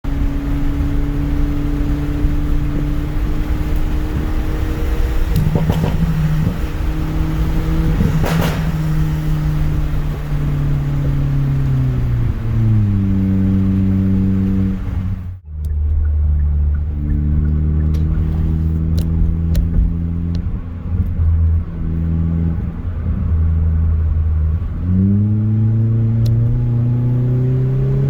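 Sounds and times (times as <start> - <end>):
car engine running: 0.0 - 28.0
exhaust crackles: 0.1 - 28.0.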